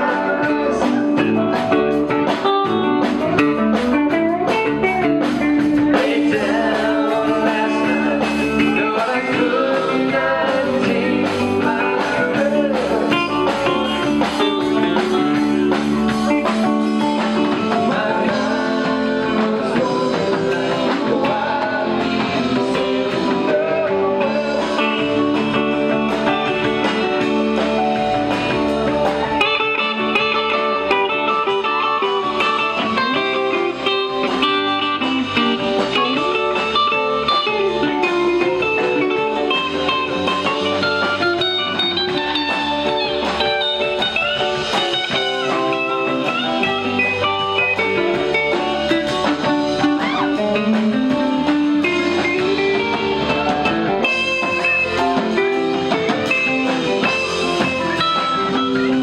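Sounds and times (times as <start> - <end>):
bass guitar: 0.0 - 59.0
drums: 0.0 - 59.0
electric guitar lines: 0.0 - 59.0.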